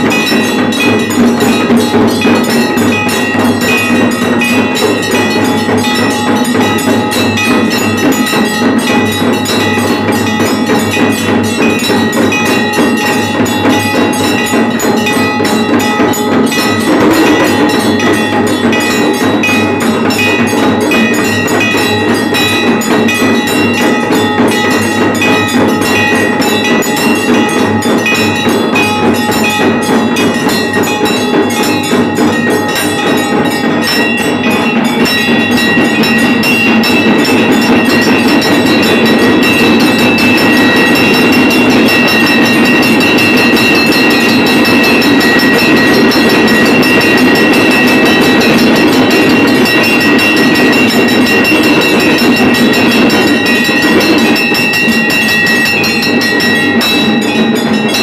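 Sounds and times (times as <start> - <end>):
bells and percussion clanging: 0.0 - 58.0
steady ringing tone: 0.0 - 58.0.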